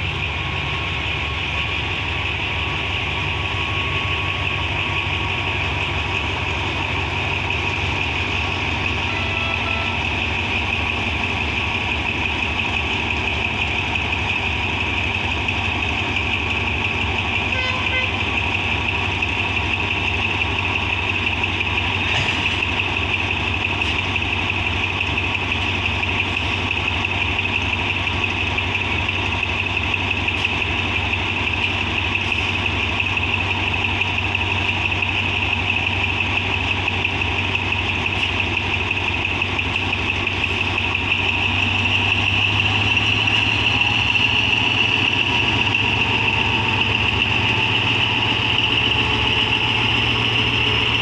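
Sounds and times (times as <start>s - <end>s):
constant high whine: 0.0s - 51.0s
diesel locomotive idling: 0.0s - 51.0s.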